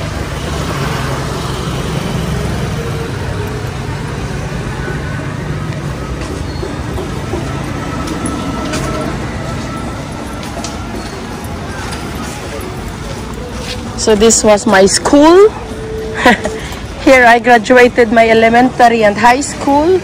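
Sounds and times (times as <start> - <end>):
vehicle engine: 0.0 - 18.8
road noise: 0.0 - 20.0.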